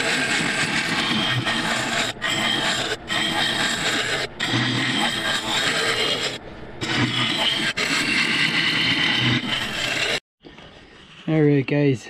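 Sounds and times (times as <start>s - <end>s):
gouge cutting wood on a lathe: 0.0s - 10.2s.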